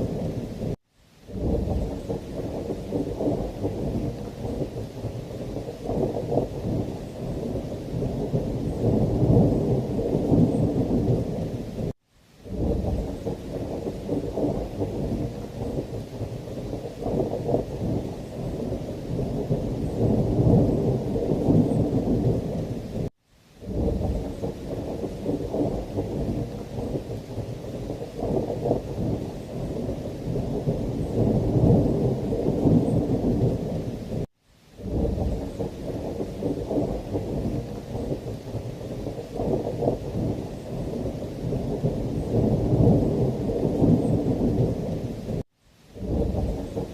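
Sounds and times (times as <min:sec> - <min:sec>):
rolling thunder: 0:00.0 - 0:11.9, 0:12.5 - 0:45.4, 0:46.0 - 0:46.9
heavy rain: 0:00.0 - 0:46.9.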